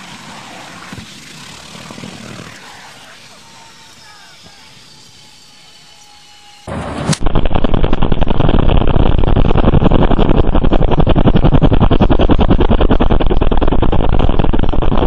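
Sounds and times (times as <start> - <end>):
helicopter rotors chopping: 0.0 - 15.0.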